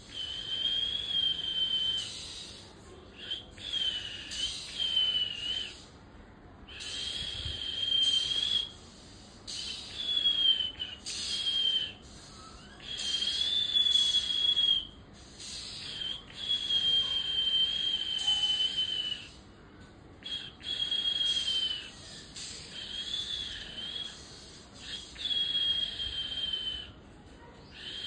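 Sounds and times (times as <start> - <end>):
bird whistled calls: 0.0 - 5.9, 6.7 - 19.4, 20.2 - 27.0, 27.6 - 28.0.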